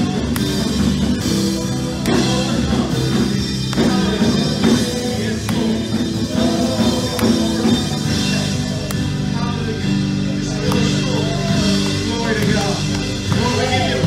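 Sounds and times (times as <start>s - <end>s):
worship band playing: 0.0s - 14.0s.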